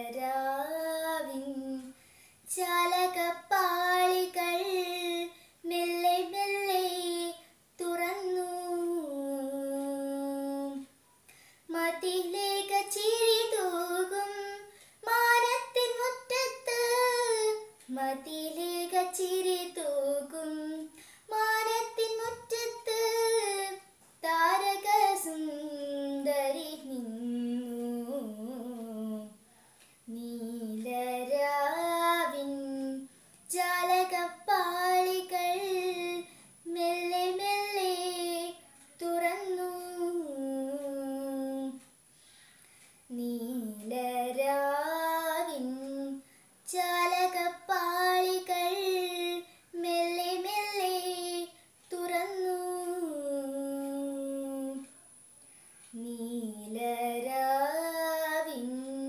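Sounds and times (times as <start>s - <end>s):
girl singing unaccompanied: 0.0s - 42.1s, 42.8s - 59.0s.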